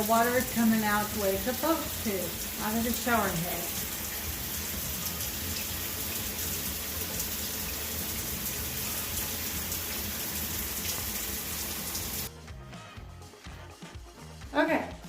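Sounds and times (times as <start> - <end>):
shower spraying water: 0.0 - 12.3.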